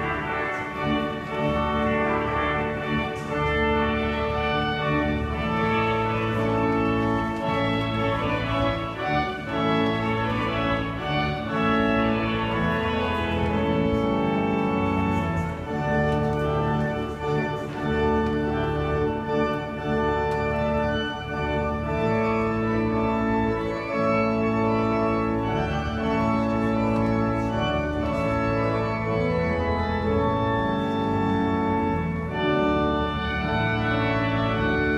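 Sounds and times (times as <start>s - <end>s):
pipe organ chords: 0.0s - 34.9s.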